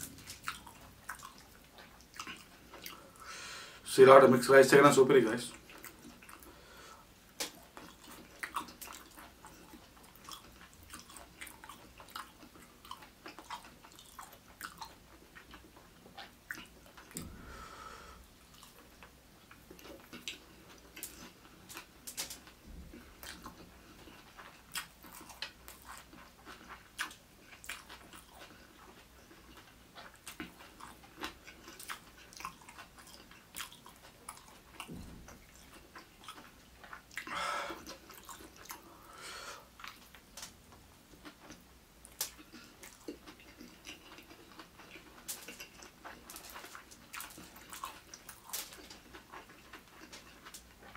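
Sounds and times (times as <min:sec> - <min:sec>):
wet chewing sounds: 0:00.0 - 0:03.4, 0:04.8 - 0:50.9.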